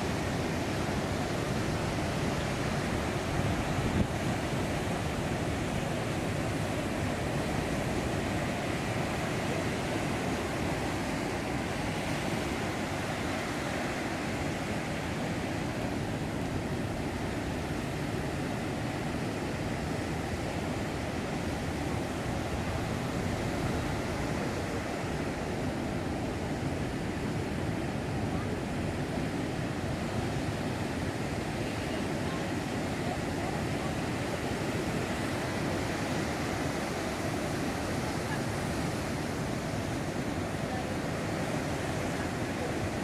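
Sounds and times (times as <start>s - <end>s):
waves breaking on beach: 0.0s - 43.0s.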